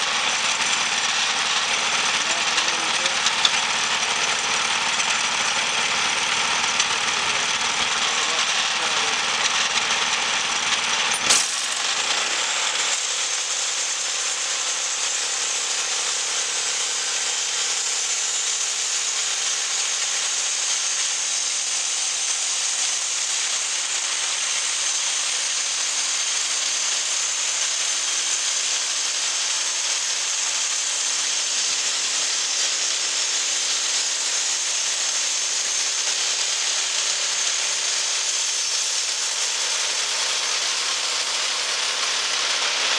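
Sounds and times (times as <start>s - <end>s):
band sawmill cutting log: 0.0s - 42.9s.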